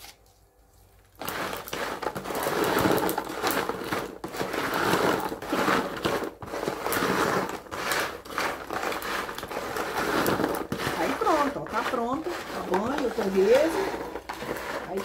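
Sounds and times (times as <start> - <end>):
metal spoon stirring pork cracklings: 1.2 - 15.0.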